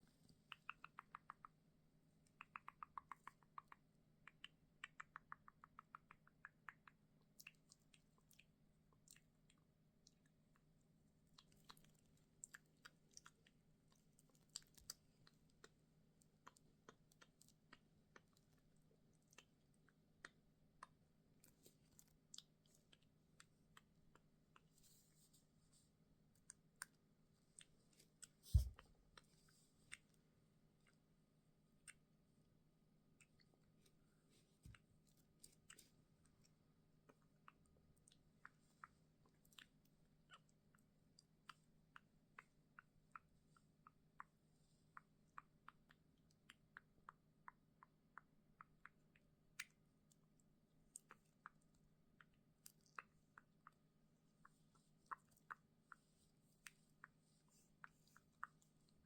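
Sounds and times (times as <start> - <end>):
soft clicks and crackles: 0.0 - 31.1, 33.2 - 59.0.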